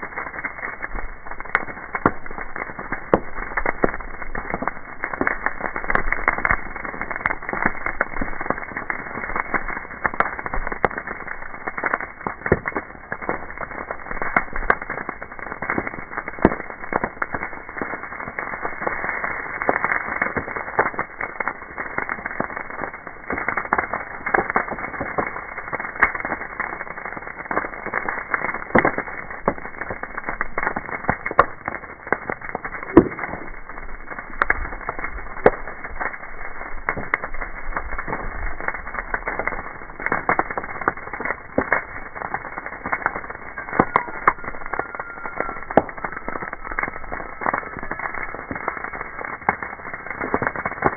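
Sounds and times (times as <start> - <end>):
brush fire crackling and popping: 0.0 - 50.9.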